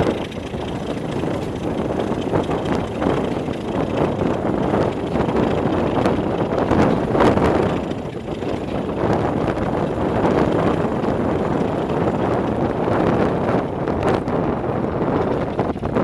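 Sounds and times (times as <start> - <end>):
moving diesel train: 0.0 - 16.0
wind buffeting microphone: 0.0 - 16.0.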